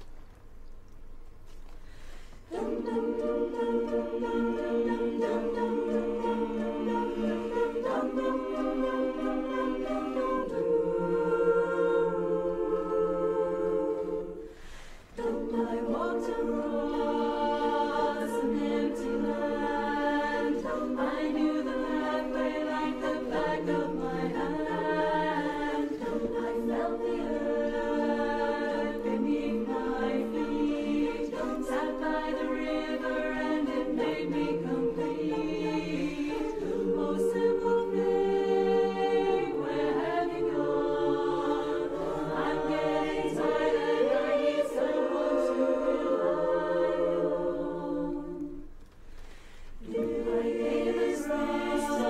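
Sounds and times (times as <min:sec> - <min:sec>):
women's chorus singing a cappella: 0:02.1 - 0:52.0.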